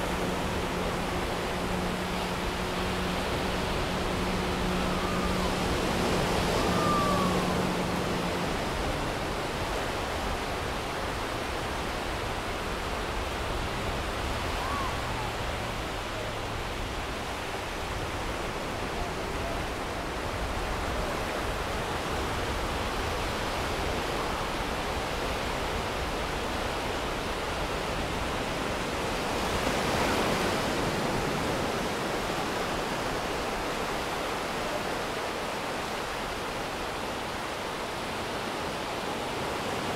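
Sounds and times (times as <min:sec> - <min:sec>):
sea surf rushing: 0:00.0 - 0:39.9.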